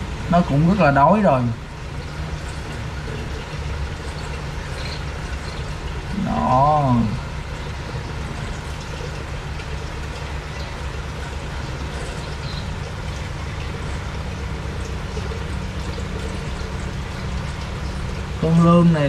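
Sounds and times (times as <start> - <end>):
low hum: 0.0 - 19.0
water trickling and bubbling: 0.0 - 19.0.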